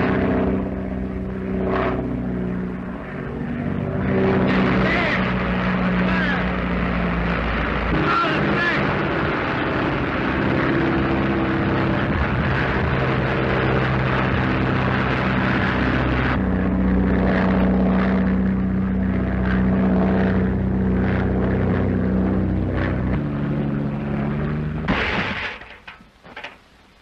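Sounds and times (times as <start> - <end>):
propeller engine droning: 0.0 - 26.8.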